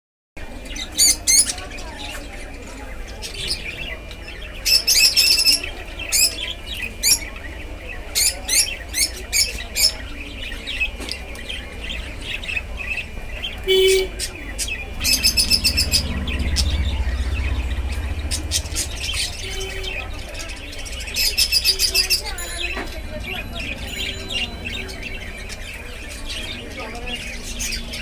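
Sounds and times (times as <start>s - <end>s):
lovebirds chirping: 0.6s - 28.0s.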